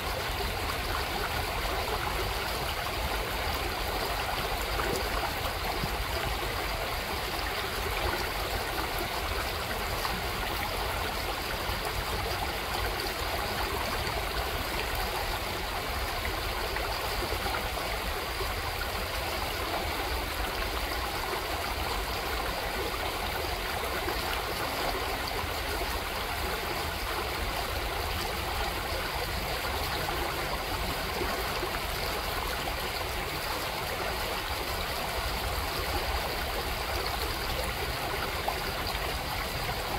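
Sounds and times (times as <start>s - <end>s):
creek running over stones: 0.0s - 39.9s.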